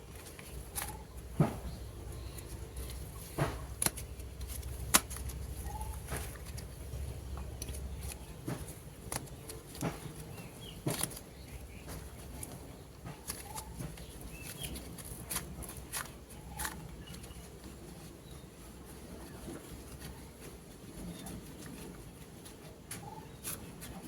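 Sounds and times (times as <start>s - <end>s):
clay clicks and crackles: 0.0s - 24.0s.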